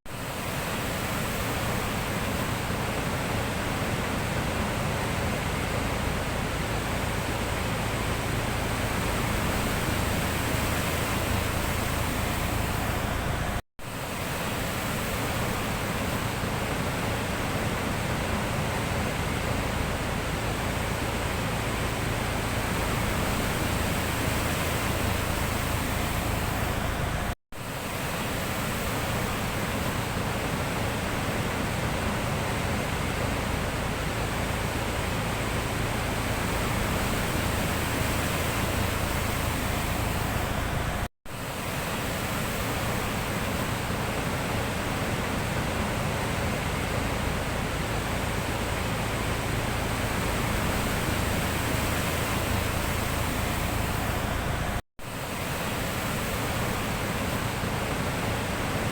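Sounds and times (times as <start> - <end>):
sea surf washing: 0.1 - 58.9.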